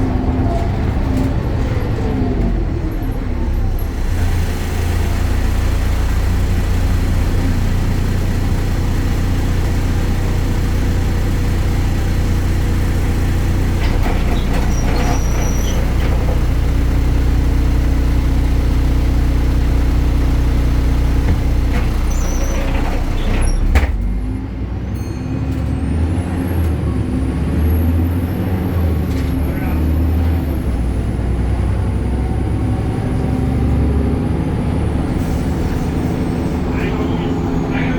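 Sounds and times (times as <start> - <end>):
bus engine droning: 0.0 - 37.9.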